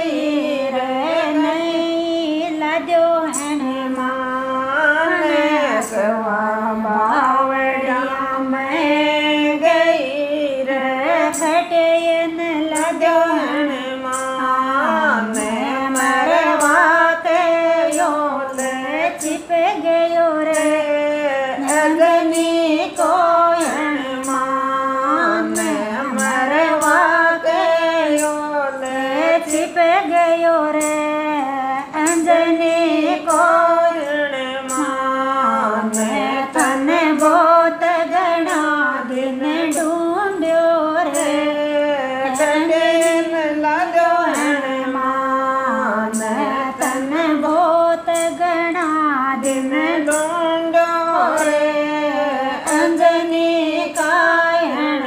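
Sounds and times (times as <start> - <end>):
women singing together: 0.0 - 55.0.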